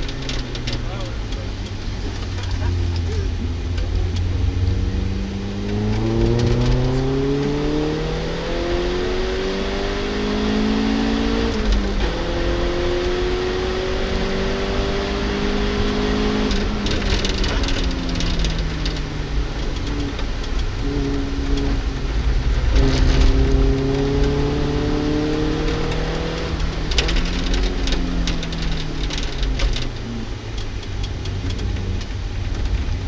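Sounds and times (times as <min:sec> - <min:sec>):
car engine accelerating: 0:00.0 - 0:33.0
engine crackle: 0:00.0 - 0:33.0
road rumble: 0:00.0 - 0:33.0.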